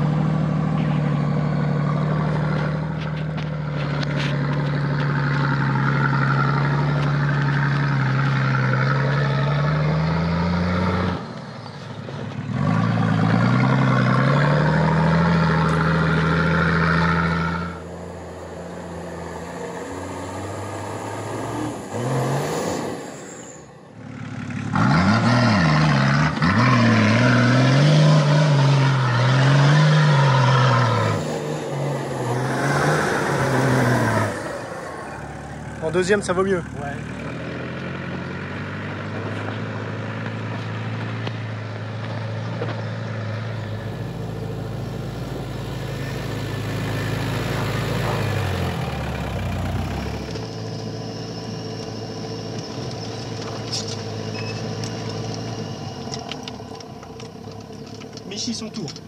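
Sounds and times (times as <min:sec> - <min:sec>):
engine revving off-road: 0:00.0 - 0:59.0.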